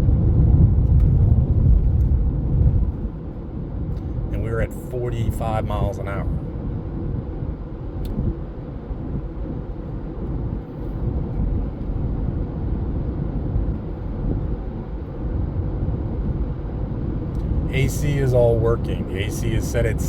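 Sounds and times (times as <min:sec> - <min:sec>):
car road and tyre rumble: 0:00.0 - 0:20.0.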